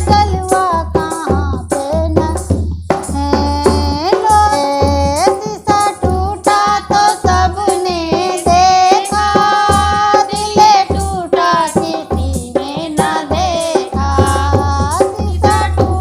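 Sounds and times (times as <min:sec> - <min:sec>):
hand drum rhythm: 0:00.0 - 0:16.0
woman singing folk song: 0:00.0 - 0:16.0.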